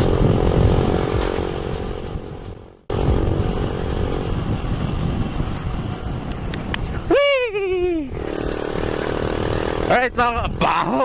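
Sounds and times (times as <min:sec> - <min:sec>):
motorcycle engine hum: 0:00.0 - 0:11.0
wind and road noise: 0:00.0 - 0:11.0.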